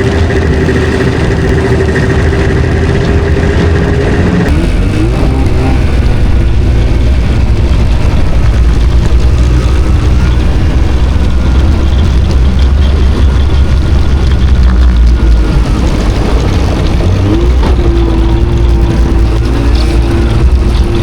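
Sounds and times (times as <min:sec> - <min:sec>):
snowmobile engine rumbling: 0:00.0 - 0:21.0.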